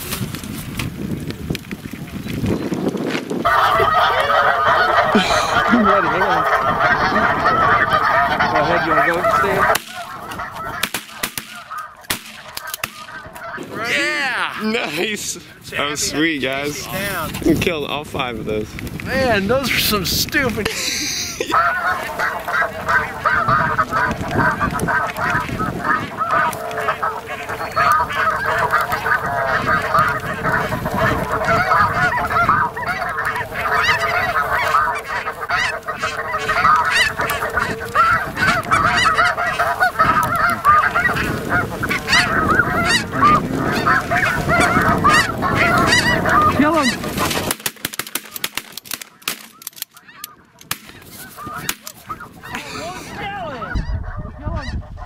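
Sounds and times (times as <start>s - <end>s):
snow geese honking: 2.4s - 17.3s, 19.1s - 55.0s.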